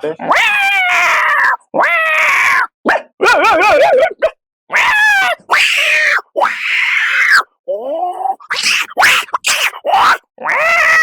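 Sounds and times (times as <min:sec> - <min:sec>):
man imitating animal calls: 0:00.0 - 0:11.0.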